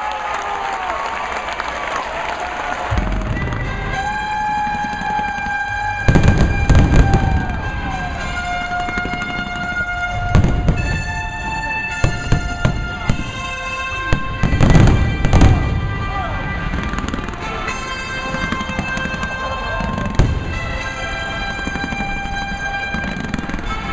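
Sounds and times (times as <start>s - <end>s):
fireworks bangs and crackles: 2.8s - 23.9s
music with long held notes: 2.8s - 23.9s.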